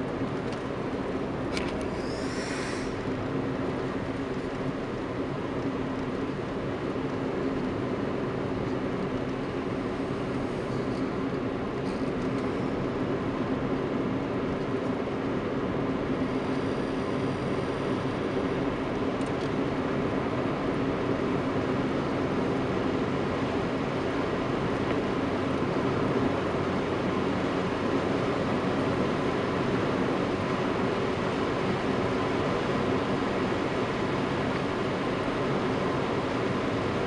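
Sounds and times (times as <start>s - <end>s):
car engine and tyre drone: 0.0s - 37.0s.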